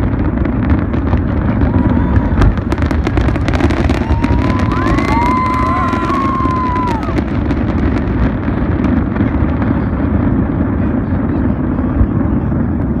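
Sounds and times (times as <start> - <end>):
firework crackles: 0.0 - 13.0
steady low rumble: 0.0 - 13.0.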